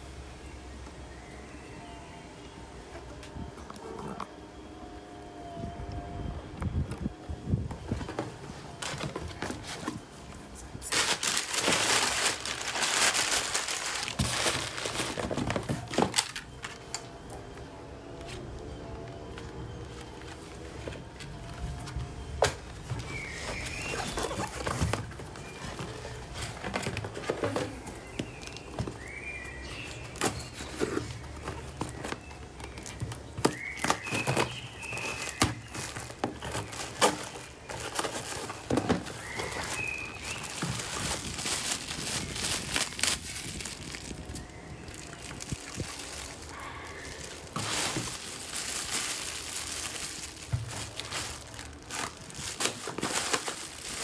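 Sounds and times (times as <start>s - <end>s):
packaging rustling and crinkling: 7.6s - 17.5s, 18.2s - 54.0s.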